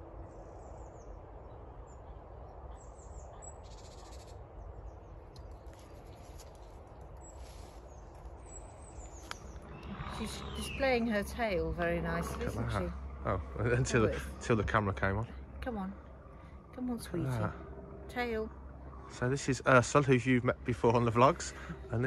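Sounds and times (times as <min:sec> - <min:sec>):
low background rumble: 0:00.0 - 0:22.0
faint bird calls: 0:01.9 - 0:22.0.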